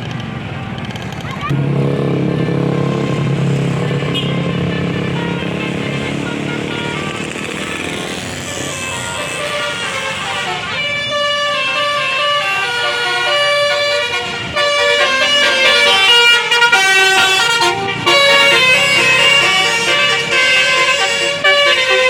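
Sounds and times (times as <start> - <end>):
musical air horns playing tune: 1.5 - 22.0.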